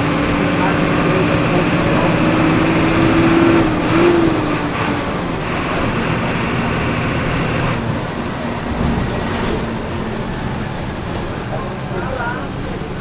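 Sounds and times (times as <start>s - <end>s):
bus engine running under load: 0.0s - 13.0s.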